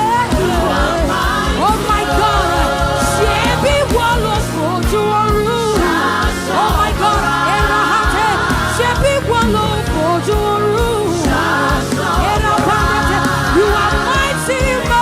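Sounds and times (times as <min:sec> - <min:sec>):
band with bass and beat: 0:00.0 - 0:15.0
person singing gospel: 0:00.0 - 0:15.0.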